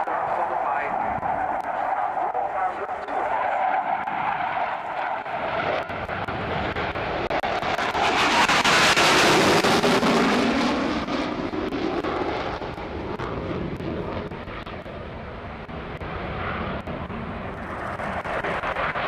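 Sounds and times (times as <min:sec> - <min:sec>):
jet engines in afterburner: 0:00.0 - 0:19.0.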